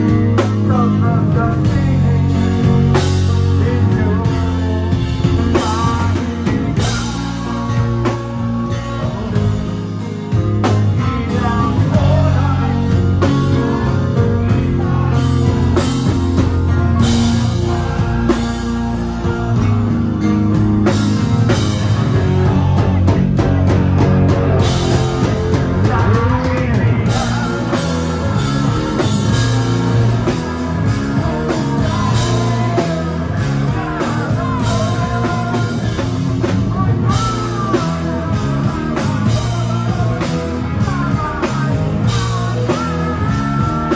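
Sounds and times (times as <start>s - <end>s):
bass guitar: 0.0s - 43.9s
distorted electric guitar: 0.0s - 43.9s
drum kit: 0.0s - 43.9s
keyboard: 0.0s - 43.9s
male lead singer: 0.0s - 43.9s.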